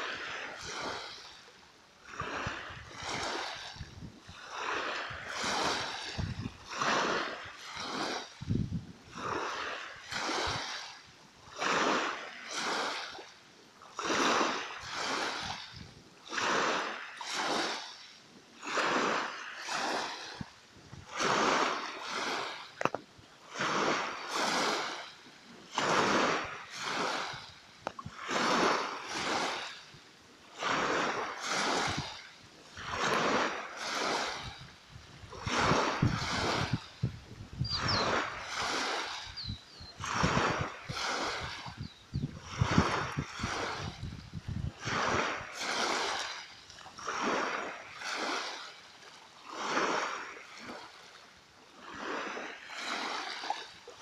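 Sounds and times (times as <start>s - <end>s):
small waves lapping at shore: 0.0s - 54.0s.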